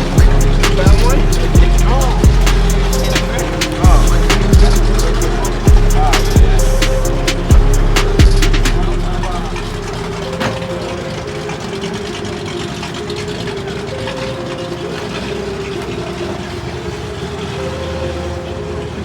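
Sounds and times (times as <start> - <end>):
car engines idling: 0.0 - 19.0
deep exhaust rumble: 0.0 - 19.0.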